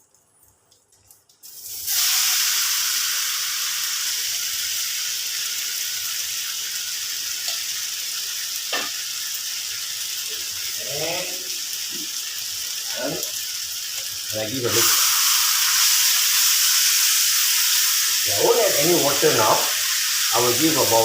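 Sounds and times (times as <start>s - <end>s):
food sizzling in hot oil: 1.4s - 21.0s.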